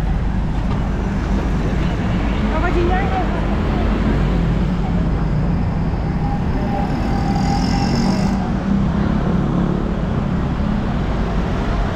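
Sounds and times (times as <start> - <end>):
road noise: 0.0 - 11.9
vehicle engines running: 0.0 - 11.9.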